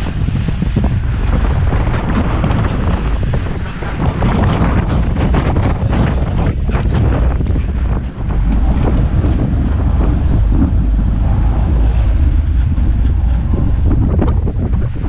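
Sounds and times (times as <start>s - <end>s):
boat engines running hard: 0.0s - 15.0s
water churning: 0.0s - 15.0s
wind buffeting microphone: 0.0s - 15.0s.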